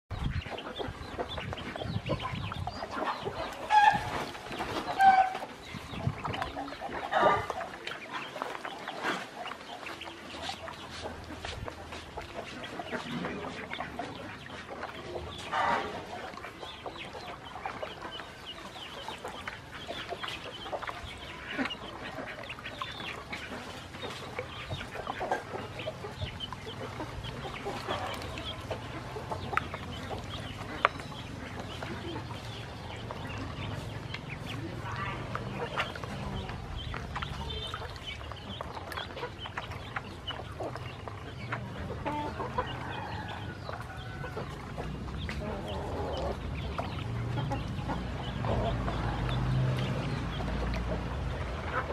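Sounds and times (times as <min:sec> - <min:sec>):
ducklings peeping: 0:00.1 - 0:51.9.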